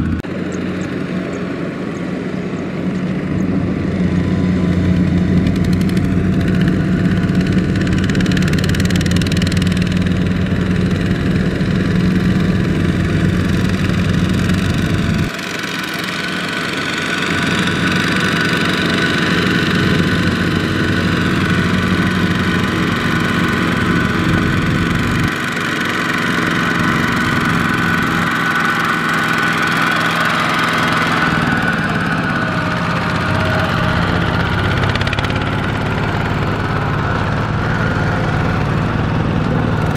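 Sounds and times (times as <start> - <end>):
diesel tractor engines running: 0.0 - 39.9
high engine whine: 0.0 - 39.9.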